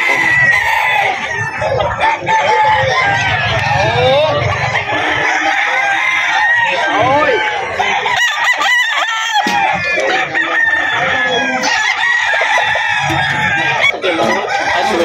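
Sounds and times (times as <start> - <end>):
chickens clucking: 0.0 - 15.0
roosters crowing: 0.0 - 15.0.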